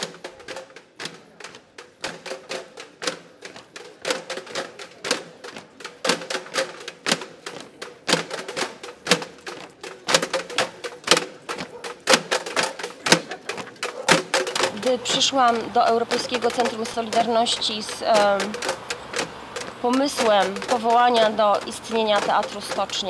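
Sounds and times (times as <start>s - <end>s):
percussion clicks and taps: 0.0s - 23.0s.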